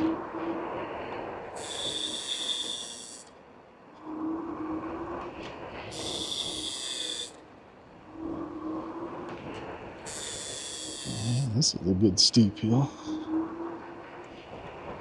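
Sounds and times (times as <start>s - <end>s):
low hum and road noise: 0.0s - 15.0s.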